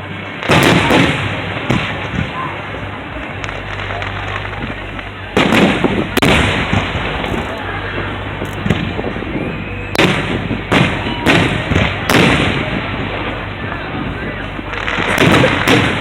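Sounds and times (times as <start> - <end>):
fireworks crackling and rumbling: 0.0 - 16.0
fireworks shells booming: 0.0 - 16.0.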